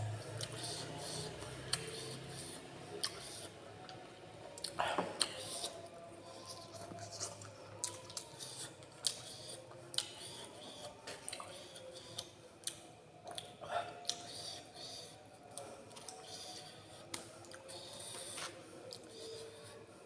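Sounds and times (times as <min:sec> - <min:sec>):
chewing crunchy food: 0:00.0 - 0:14.6, 0:15.4 - 0:19.8.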